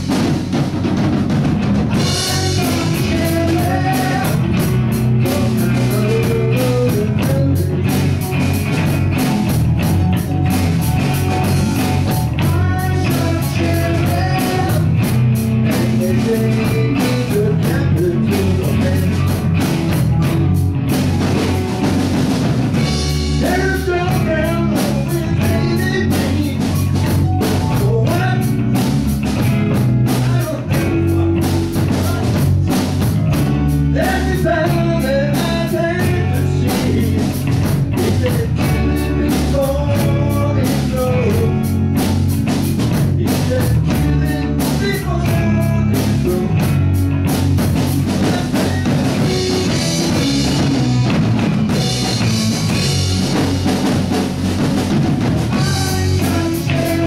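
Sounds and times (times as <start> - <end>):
lead melody: 0.0 - 43.2, 43.8 - 57.0
drum kit beat: 0.0 - 57.0
electric guitars: 0.0 - 57.0.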